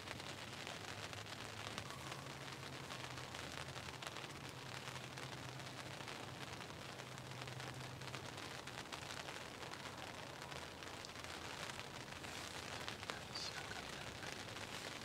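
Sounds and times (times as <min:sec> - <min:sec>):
rain hissing: 0:00.0 - 0:15.0
raindrop taps: 0:01.1 - 0:15.0.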